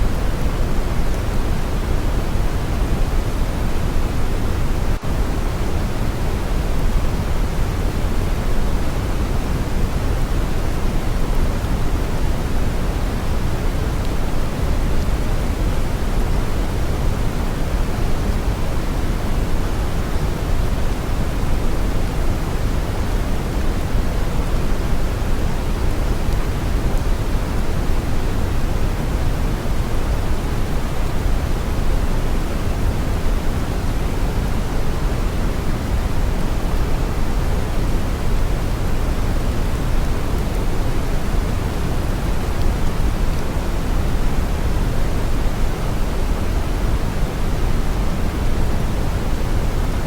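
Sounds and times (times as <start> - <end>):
brown noise hiss: 0.0 - 50.0.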